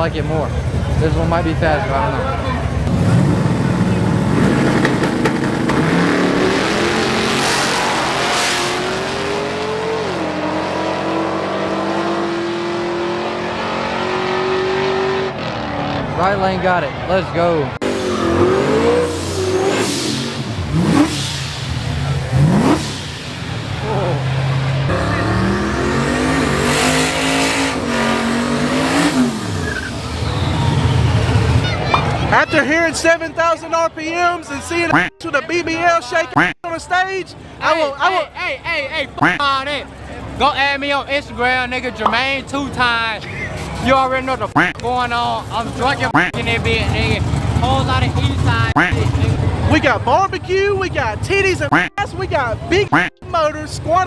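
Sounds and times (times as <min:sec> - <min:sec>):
cars racing at full throttle: 0:00.0 - 0:33.4, 0:39.1 - 0:54.0.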